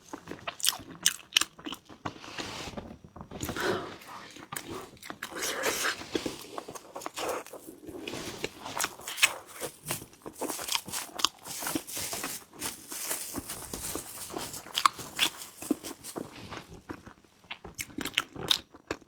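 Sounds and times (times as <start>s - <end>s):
chewing and biting rice cake: 0.0s - 2.2s, 3.4s - 19.0s.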